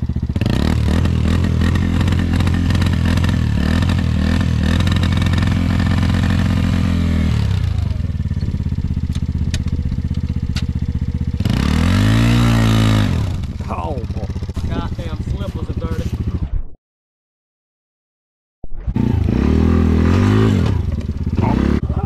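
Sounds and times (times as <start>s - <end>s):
quad engine revving: 0.0s - 16.6s, 18.8s - 22.0s.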